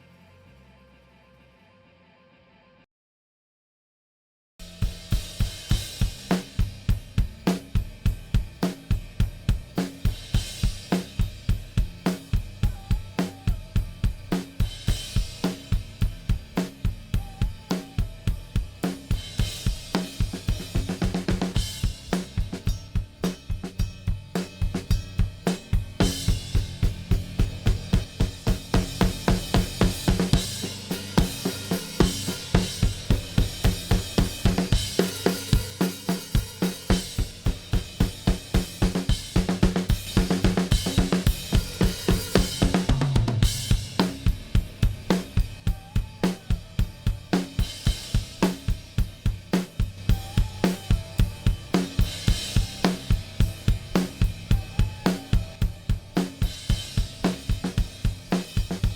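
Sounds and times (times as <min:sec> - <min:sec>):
rock drum beat: 0:04.6 - 0:58.9.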